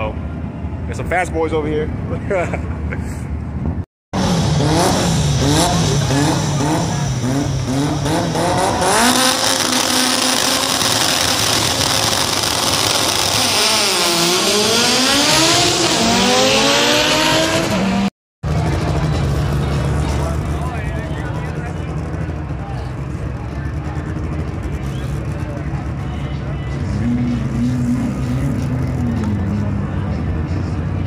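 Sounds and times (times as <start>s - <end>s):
drag car engine revving: 4.2s - 31.0s.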